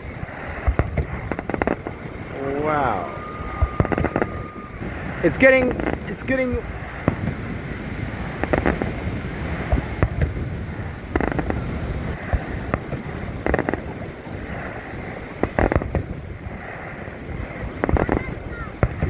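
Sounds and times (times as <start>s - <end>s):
fireworks booms and cracks: 0.0s - 19.0s.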